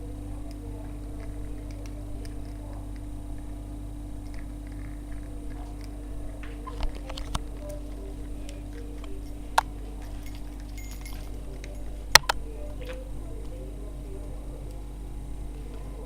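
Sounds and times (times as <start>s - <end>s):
steady low hum: 0.0s - 16.0s
parrot clicks and soft sounds: 0.4s - 13.6s.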